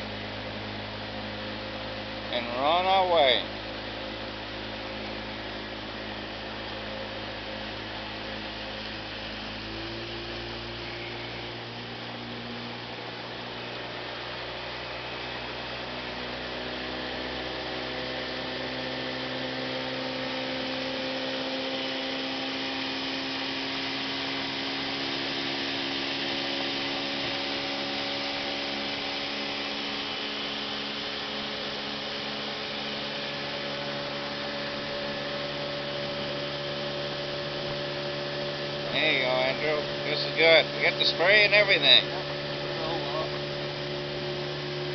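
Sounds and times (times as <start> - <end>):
motorboat engine: 0.0 - 44.9.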